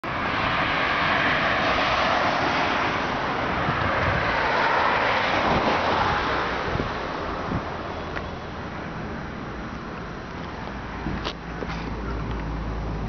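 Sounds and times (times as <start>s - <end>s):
passing vehicles rushing: 0.0s - 13.0s.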